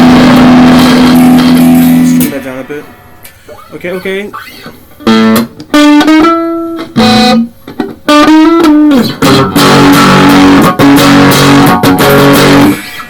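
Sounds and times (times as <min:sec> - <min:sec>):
loud electric guitar chords: 0:00.0 - 0:03.6, 0:05.0 - 0:13.0.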